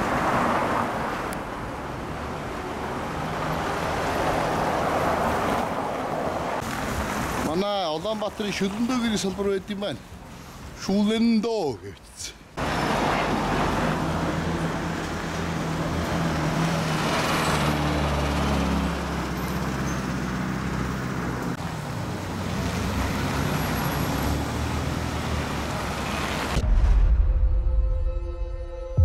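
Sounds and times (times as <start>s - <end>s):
passing cars and tyre noise: 0.0s - 10.8s, 12.6s - 26.6s.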